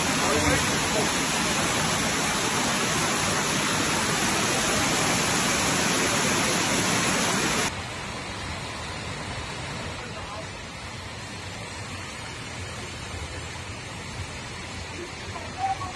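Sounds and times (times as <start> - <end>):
heavy rain pouring: 0.0 - 15.9
running floodwater: 0.0 - 15.9.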